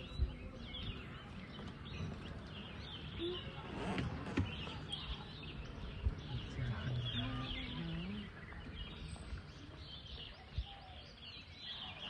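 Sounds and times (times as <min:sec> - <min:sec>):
birds chirping: 0:00.0 - 0:12.0
murmur of voices: 0:00.0 - 0:12.0.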